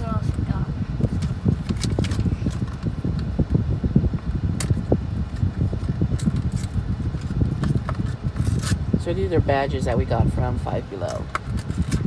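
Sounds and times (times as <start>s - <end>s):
low car cabin rumble: 0.0s - 12.0s.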